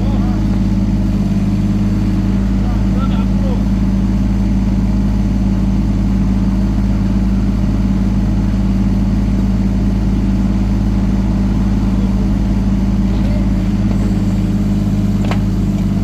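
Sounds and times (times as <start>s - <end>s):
excavator engine humming: 0.0s - 16.0s.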